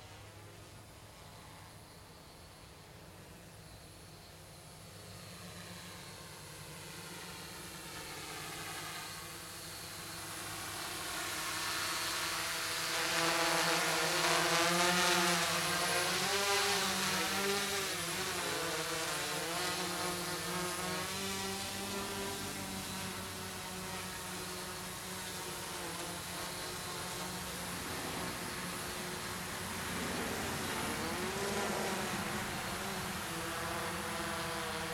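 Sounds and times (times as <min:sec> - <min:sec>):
drone motors buzzing whine: 0:00.7 - 0:34.9.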